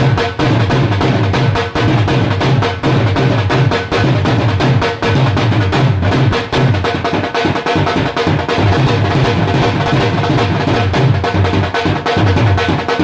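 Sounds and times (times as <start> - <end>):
dhol drumming: 0.0 - 13.0.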